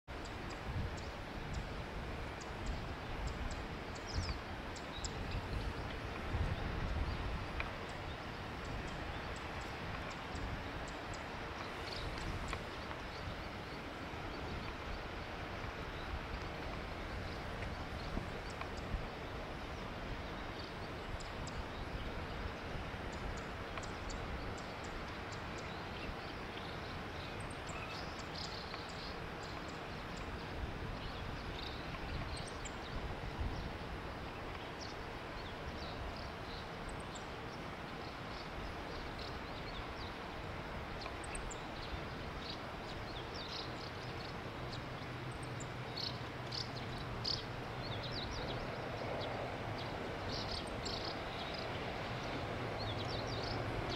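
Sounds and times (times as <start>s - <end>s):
background hiss: 0.1s - 53.9s
distant train hum: 0.2s - 31.2s, 32.6s - 53.9s.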